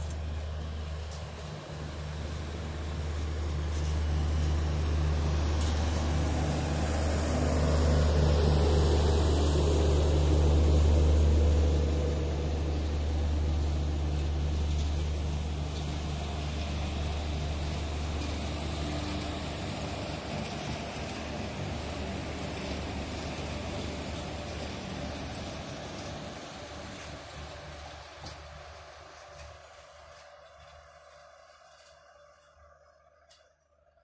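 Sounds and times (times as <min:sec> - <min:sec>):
train wheels rumbling on rail: 0:00.0 - 0:33.4
electric locomotive deep hum: 0:00.0 - 0:34.0.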